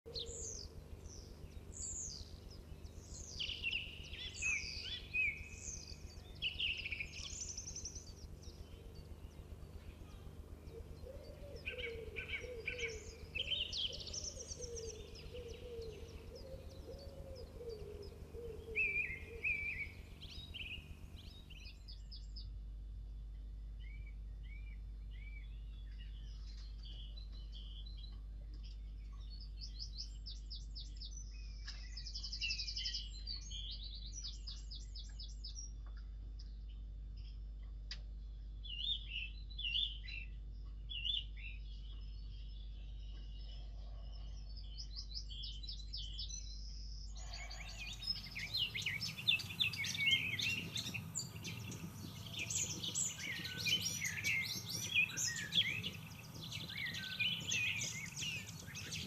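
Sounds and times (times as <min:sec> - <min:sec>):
songbirds singing: 0:00.0 - 0:59.0
low repeated bird calls: 0:00.1 - 0:59.0
steady low hum: 0:00.1 - 0:59.0.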